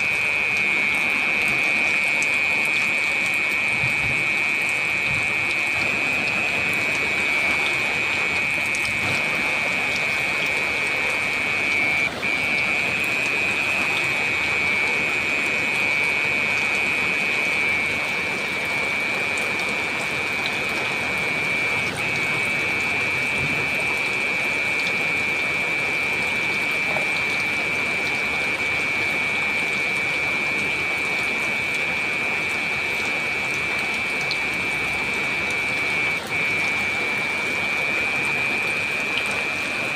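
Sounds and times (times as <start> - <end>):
heavy rain: 0.0 - 39.9
steady high-pitched tone: 0.0 - 39.9.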